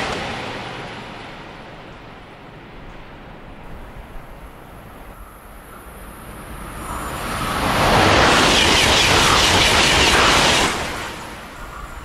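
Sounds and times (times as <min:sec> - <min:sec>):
high-speed train passing: 0:00.0 - 0:12.0.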